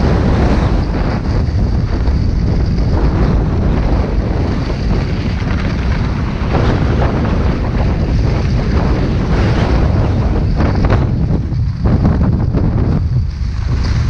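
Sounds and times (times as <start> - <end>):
skis sliding on snow: 0.0 - 12.2, 12.9 - 14.0
wind buffeting microphone: 0.0 - 14.0.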